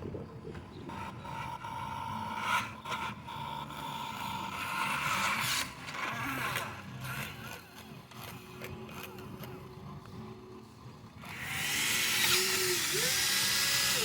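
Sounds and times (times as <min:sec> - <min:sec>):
model truck electric motor whining: 0:00.3 - 0:14.0.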